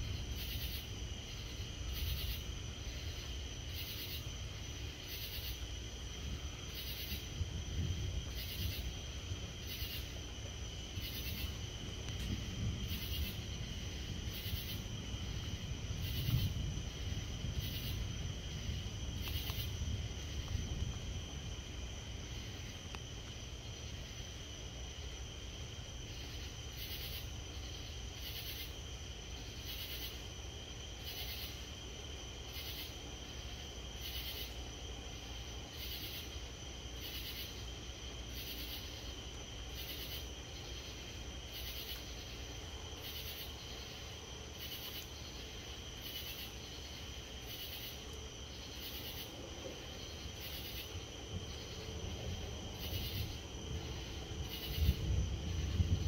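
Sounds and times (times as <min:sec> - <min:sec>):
insect high-pitched trill: 0:00.0 - 0:07.4, 0:08.0 - 0:25.2, 0:26.0 - 0:56.0
low steady background noise: 0:00.0 - 0:56.0
pulsing insect call: 0:00.0 - 0:56.0.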